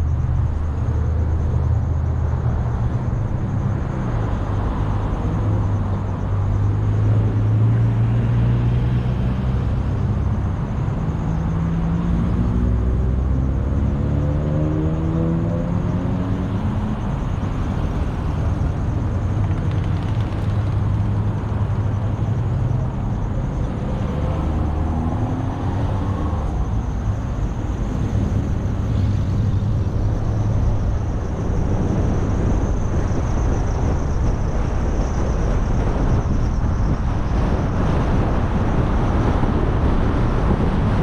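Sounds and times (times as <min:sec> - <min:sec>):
car engine and tyre noise: 0:00.0 - 0:41.0.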